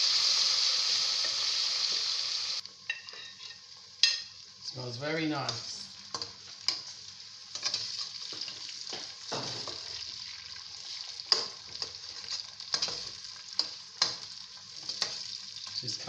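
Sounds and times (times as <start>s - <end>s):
onions sizzling in a pot: 0.0s - 16.0s.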